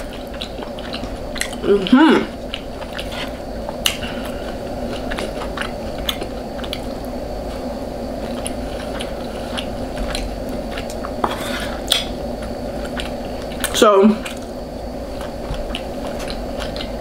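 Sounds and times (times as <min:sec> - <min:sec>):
person chewing and biting: 0:00.0 - 0:17.0
steady low hum: 0:00.0 - 0:17.0.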